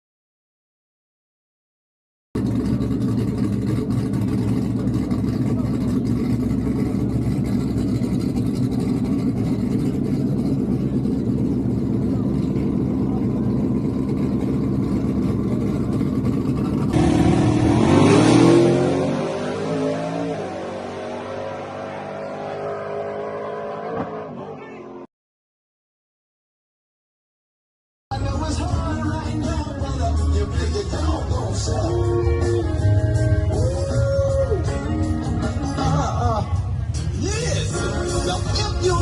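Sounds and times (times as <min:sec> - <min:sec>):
car engine rumbling and accelerating: 0:02.4 - 0:25.1, 0:28.1 - 0:39.0.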